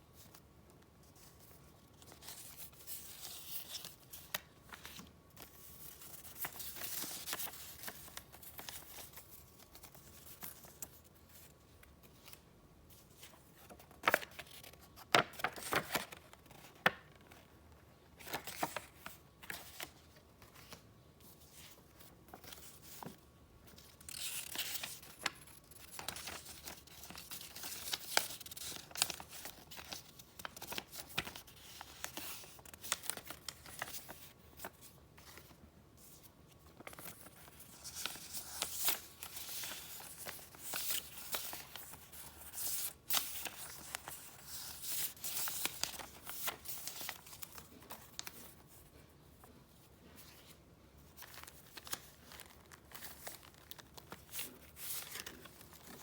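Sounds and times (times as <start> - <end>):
paper rustling and crinkling: 0.1 - 56.0.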